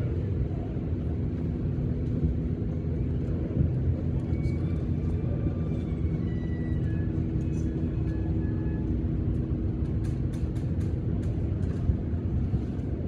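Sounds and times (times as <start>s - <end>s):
low rumble of vehicle: 0.0s - 13.0s.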